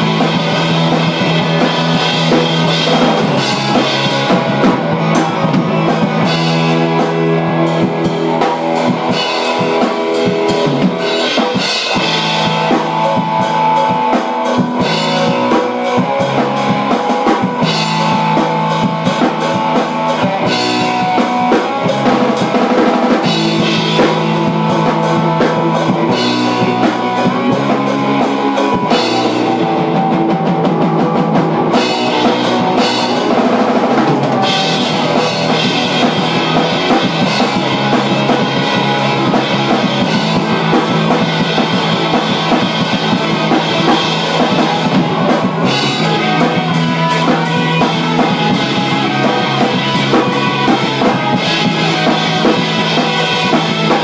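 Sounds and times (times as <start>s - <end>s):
drum kit: 0.0s - 54.0s
guitars: 0.0s - 54.0s.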